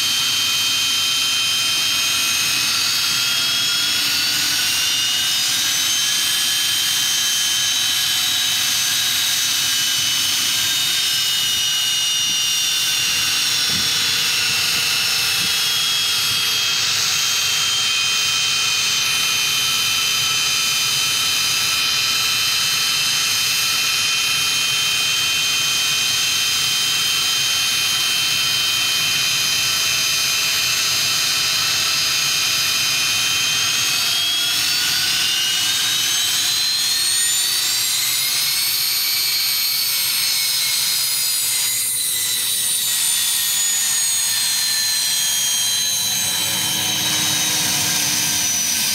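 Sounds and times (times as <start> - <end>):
jet engines idling whine: 0.0 - 48.9.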